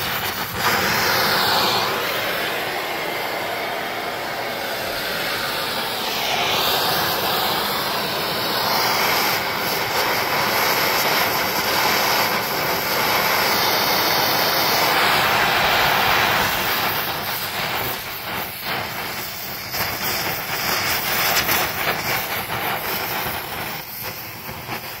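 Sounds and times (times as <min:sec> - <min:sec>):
torch flame hissing: 0:00.0 - 0:25.0.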